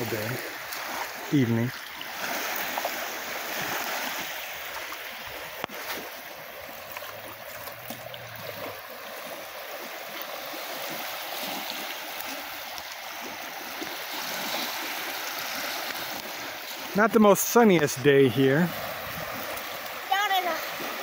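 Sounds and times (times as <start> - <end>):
small waves lapping on shore: 0.0 - 21.0.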